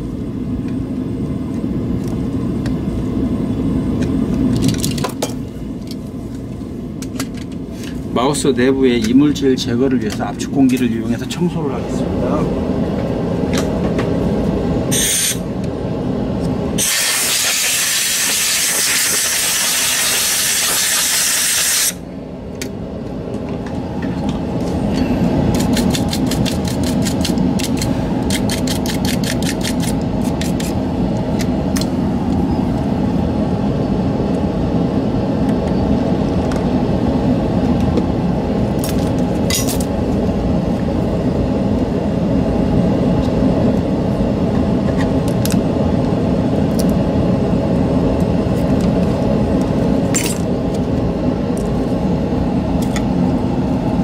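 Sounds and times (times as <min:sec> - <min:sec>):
low machine drone: 0:00.0 - 0:54.0.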